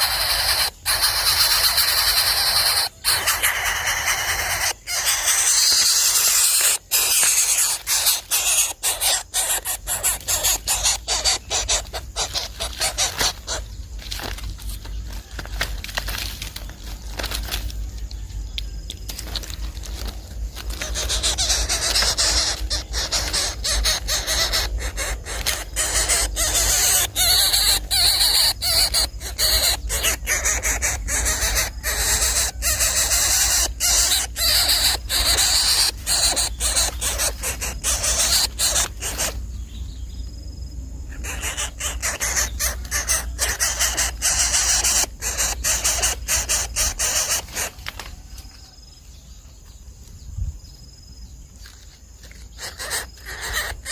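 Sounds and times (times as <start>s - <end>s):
chicks raspy begging squeals: 0.0s - 16.2s, 19.2s - 40.1s, 41.0s - 48.8s, 52.2s - 53.9s.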